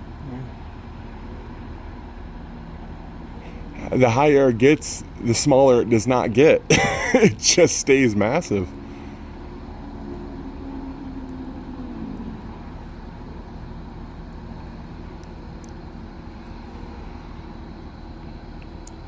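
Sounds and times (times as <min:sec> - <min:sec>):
crane diesel engine humming: 0:00.0 - 0:19.0.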